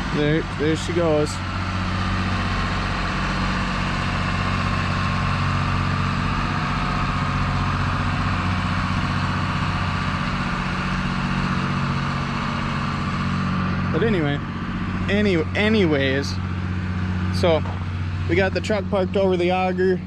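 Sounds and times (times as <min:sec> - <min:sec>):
tractor engines droning: 0:00.0 - 0:20.0.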